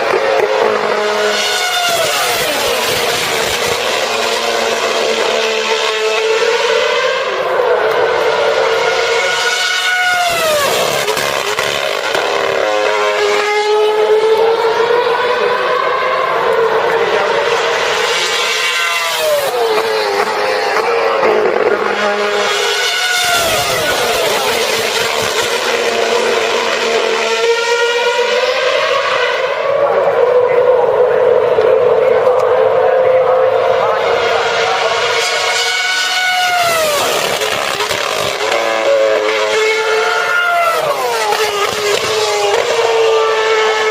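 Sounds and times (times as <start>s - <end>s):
race car engine at high revs: 0.0s - 43.9s.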